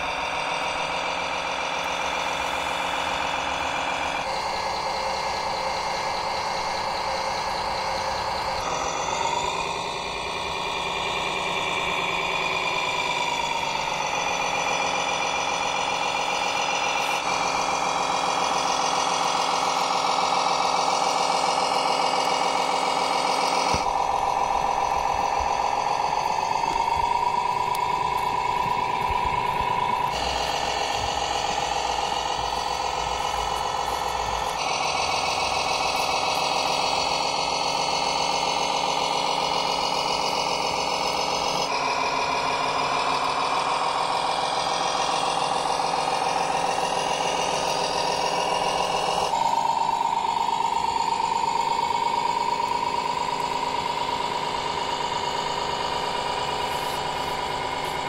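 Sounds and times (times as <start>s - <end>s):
high whine: 0.0s - 58.0s
model truck engine drone: 0.0s - 58.0s.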